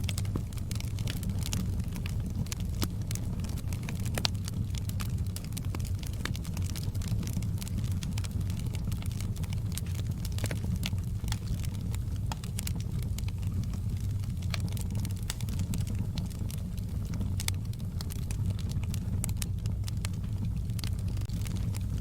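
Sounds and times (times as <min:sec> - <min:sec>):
low rumble of fire: 0:00.0 - 0:22.0
wood fire crackling: 0:00.0 - 0:22.0.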